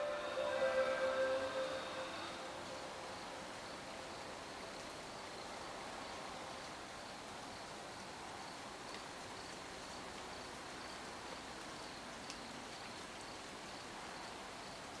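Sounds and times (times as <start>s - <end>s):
faint insects chirping: 0.0s - 15.0s
steady outdoor hiss: 0.0s - 15.0s.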